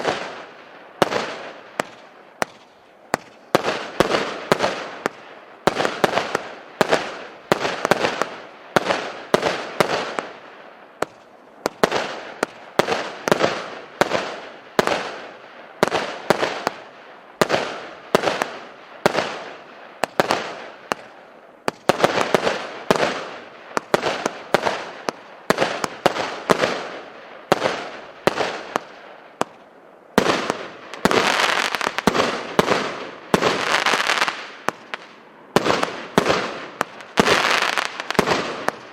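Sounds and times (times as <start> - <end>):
firework bangs: 0.0 - 38.9
firework crackle: 0.0 - 38.9.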